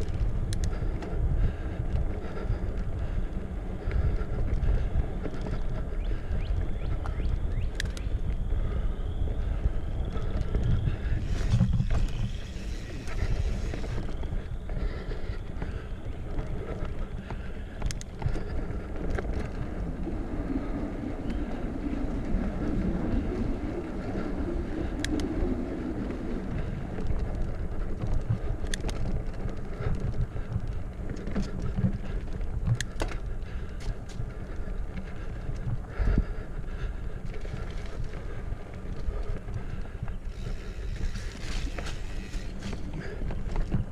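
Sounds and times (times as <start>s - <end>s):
bike tyre noise on dirt: 0.0s - 43.9s
wind buffeting: 0.0s - 43.9s.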